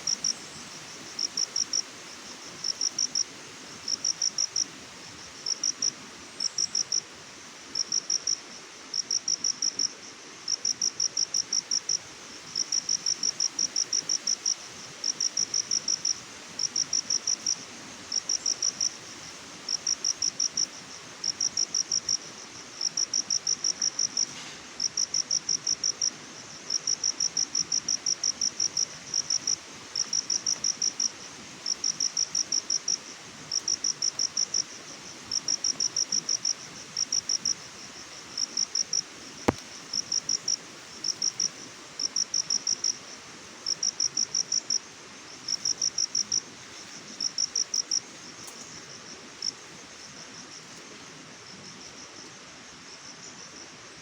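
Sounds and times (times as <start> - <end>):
cricket chirping: 0.0 - 53.8
steady hiss: 0.0 - 54.0.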